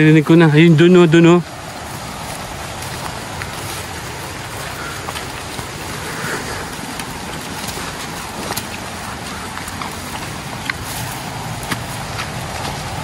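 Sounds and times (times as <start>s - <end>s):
rain: 0.0s - 13.0s
water rushing: 0.0s - 13.0s.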